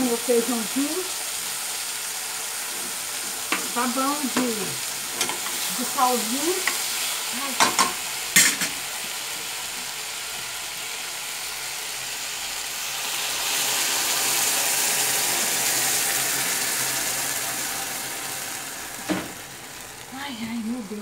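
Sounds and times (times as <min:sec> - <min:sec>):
beans sizzling in a pan: 0:00.0 - 0:21.0.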